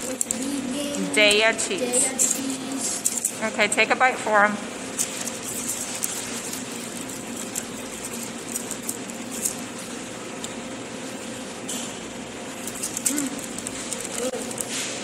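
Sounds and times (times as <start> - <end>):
paper crinkling: 0.0 - 3.4, 4.9 - 11.3, 12.5 - 15.0
air handling hum: 0.0 - 15.0.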